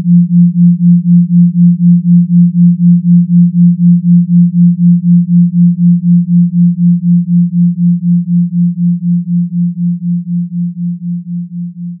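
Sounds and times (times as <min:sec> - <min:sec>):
pulsing sine tone: 0:00.0 - 0:12.0.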